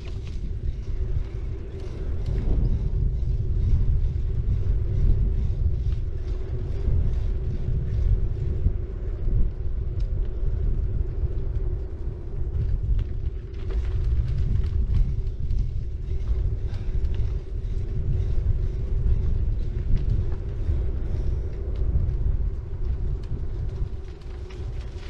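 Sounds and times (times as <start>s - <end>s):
bicycle tyres rolling on road: 0.0s - 25.0s
small clicks and ticks: 0.0s - 25.0s
steady hum: 0.0s - 25.0s
wind rumble on microphone: 0.0s - 25.0s.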